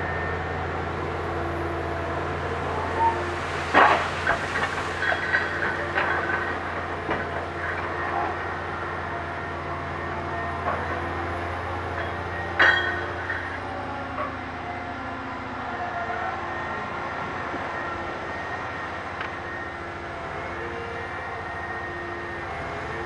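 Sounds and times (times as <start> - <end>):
dragline machine humming and whining: 0.0 - 23.0.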